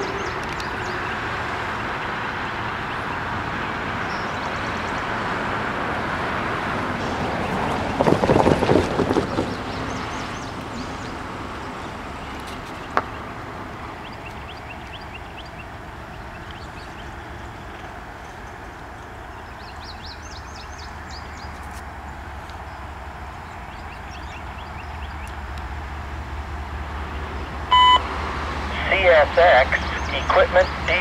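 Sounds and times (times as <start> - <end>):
birds chirping: 0.0 - 6.4, 7.0 - 31.0
distant diesel train rumble: 0.0 - 31.0.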